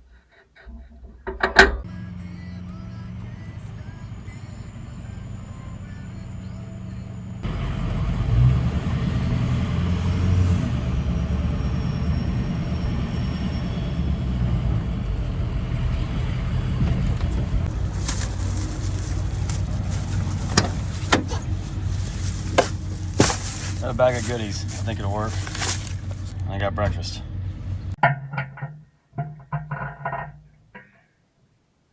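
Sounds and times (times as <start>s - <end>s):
vehicle engine and road rumble: 1.0s - 28.0s.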